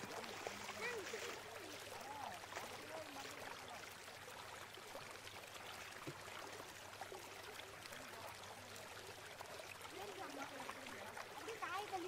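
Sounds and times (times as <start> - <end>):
floodwater running: 0.0 - 12.0.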